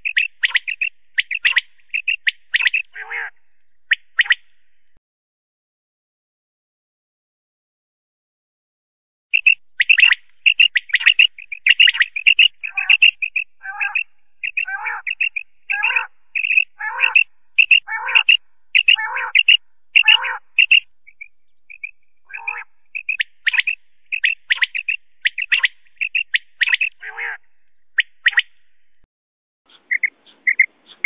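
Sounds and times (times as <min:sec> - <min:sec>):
quail calling: 0:00.0 - 0:04.5, 0:09.4 - 0:28.6, 0:29.7 - 0:31.0.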